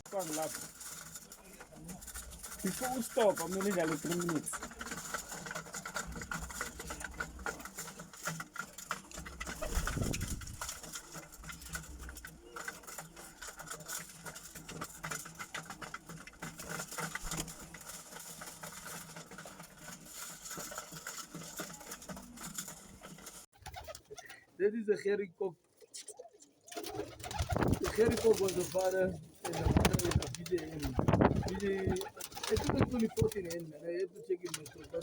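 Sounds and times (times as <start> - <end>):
pigeons shuffling and rustling: 0.0 - 24.4, 25.9 - 35.0
small scratches and clicks: 0.1 - 24.0, 25.8 - 35.0.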